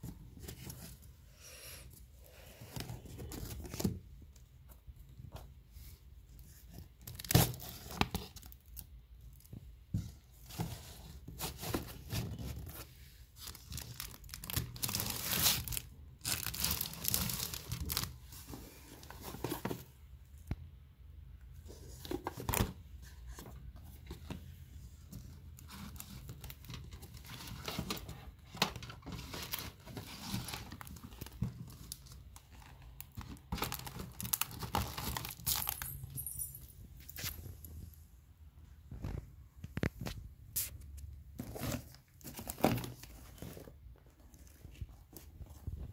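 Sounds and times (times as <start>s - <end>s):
cardboard and paper rustling: 0.0s - 1.3s, 1.9s - 20.2s, 21.6s - 36.0s, 38.8s - 45.9s.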